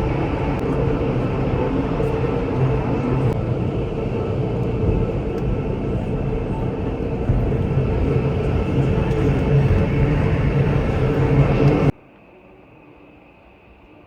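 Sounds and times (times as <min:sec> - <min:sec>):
moving vehicle rumble: 0:00.0 - 0:11.9
constant low hum: 0:00.0 - 0:14.0.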